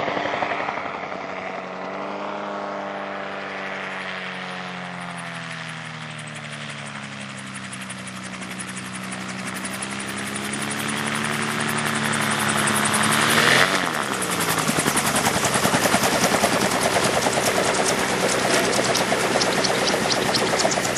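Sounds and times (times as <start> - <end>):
gyroplane engine passing: 3.7 - 20.9.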